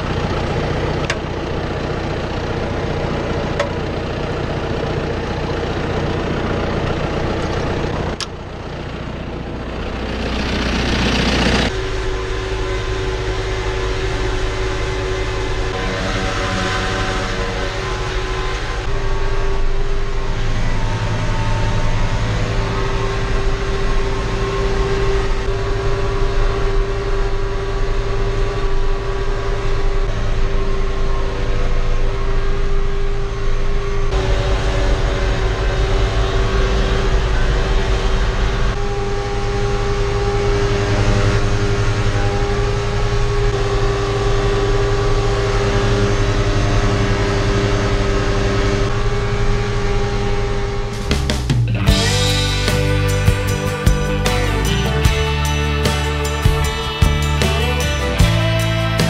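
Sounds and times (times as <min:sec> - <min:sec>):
steady whine: 0:00.0 - 0:59.0
tractor diesel engine running: 0:00.0 - 0:59.0.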